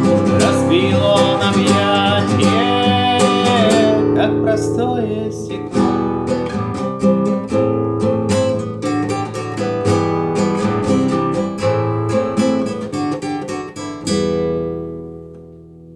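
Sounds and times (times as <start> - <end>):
acoustic guitar strumming: 0.0 - 15.9.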